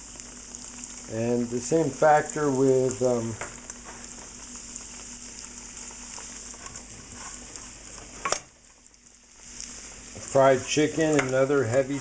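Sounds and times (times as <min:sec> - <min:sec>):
faint crackles of frying: 0:00.0 - 0:12.0
shrimp deep-frying in oil: 0:00.0 - 0:12.0.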